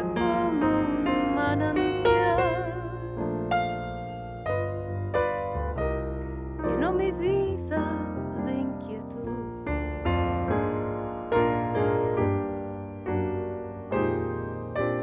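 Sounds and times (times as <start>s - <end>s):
digital piano chords: 0.0s - 15.0s.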